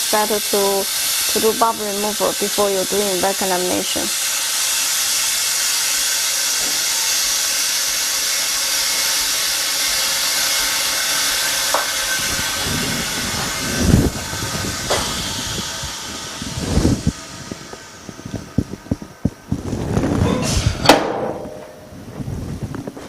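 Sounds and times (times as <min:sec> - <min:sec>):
compressed air hissing: 0:00.0 - 0:20.9.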